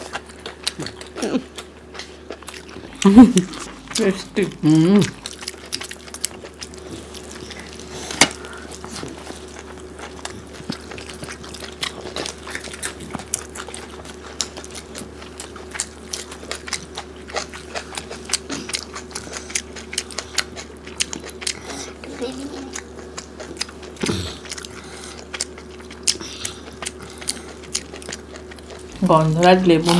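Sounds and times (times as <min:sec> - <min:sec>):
chewing with lip smacks: 0:00.0 - 0:29.9.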